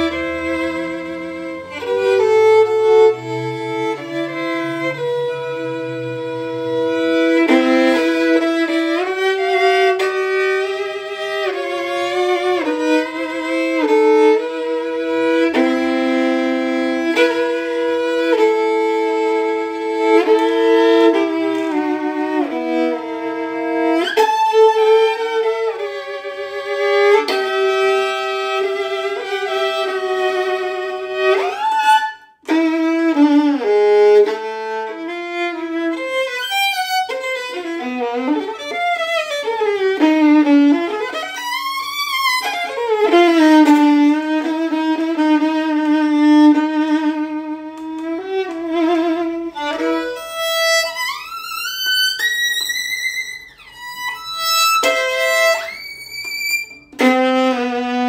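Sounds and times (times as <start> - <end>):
solo violin melody: 0.0 - 58.0.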